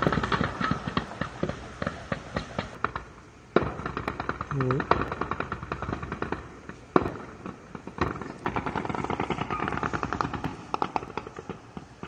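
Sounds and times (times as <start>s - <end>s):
automatic gunfire: 0.0s - 3.0s, 3.6s - 11.8s.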